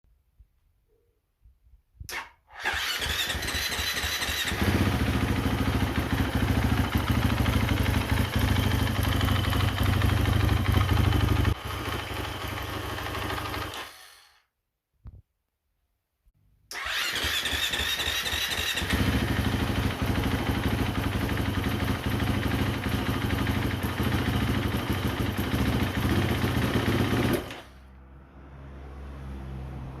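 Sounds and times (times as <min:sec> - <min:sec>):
motorcycle engine starting and running: 0:02.1 - 0:14.3, 0:16.7 - 0:30.0.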